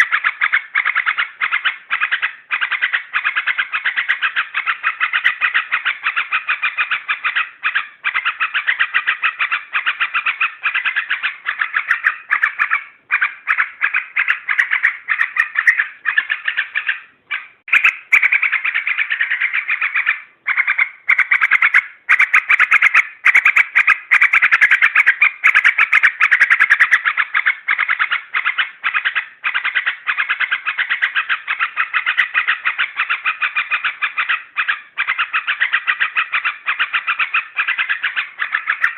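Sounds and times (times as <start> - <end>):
bulbul chattering calls: 0.0 - 38.9.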